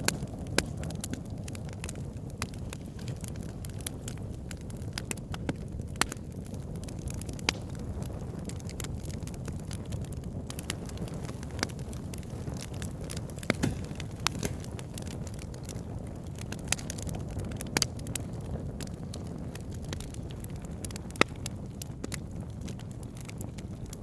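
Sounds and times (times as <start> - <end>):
campfire burning: 0.0 - 24.0
fire crackles and pops: 0.0 - 24.0.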